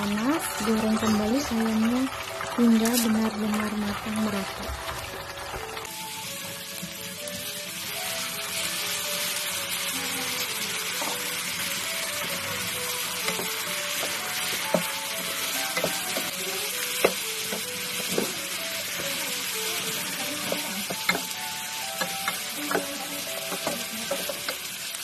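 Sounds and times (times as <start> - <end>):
sauce sizzling in a pan: 0.0 - 25.0.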